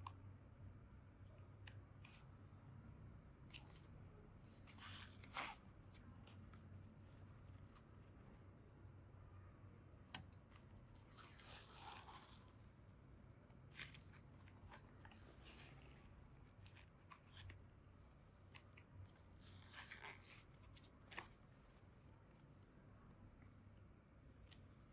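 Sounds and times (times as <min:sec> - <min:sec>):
hands working modelling clay: 0:00.0 - 0:24.9.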